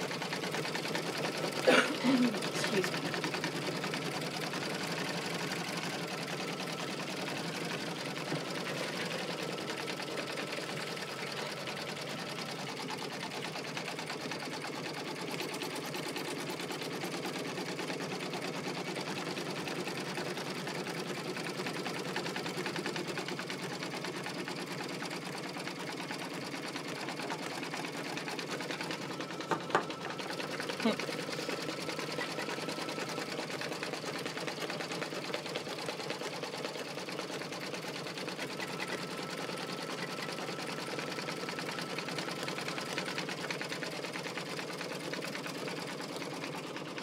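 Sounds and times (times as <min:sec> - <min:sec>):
embroidery machine stitching: 0:00.0 - 0:47.0.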